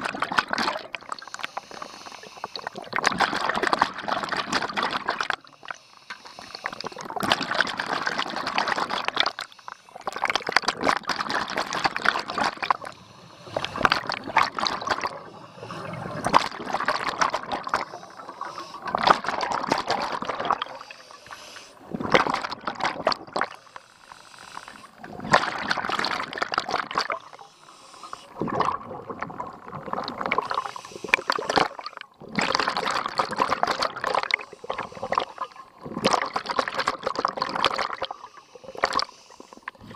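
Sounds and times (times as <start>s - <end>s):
scuba regulator exhaust bubbles: 0.0s - 23.7s, 24.6s - 39.9s.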